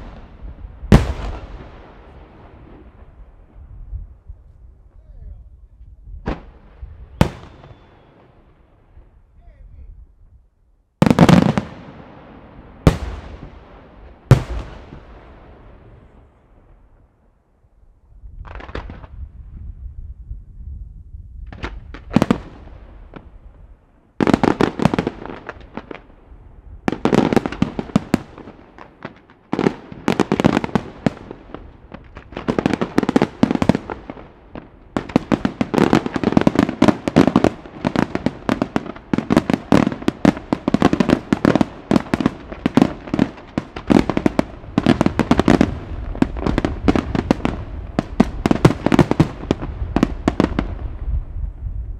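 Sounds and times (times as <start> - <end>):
fireworks launching and bursting: 0.0 - 3.9, 6.2 - 9.2, 11.0 - 17.0, 18.4 - 19.6, 21.4 - 51.9.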